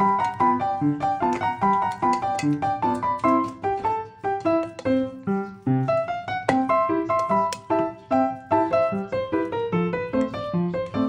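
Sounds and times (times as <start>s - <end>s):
piano-like keyboard melody: 0.0s - 11.0s.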